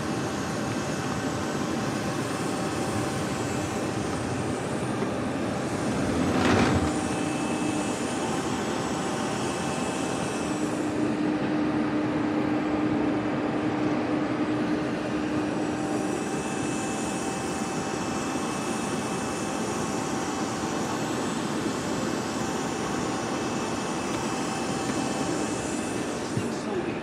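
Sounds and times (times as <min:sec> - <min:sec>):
aircraft turbine whine: 0:00.0 - 0:27.0.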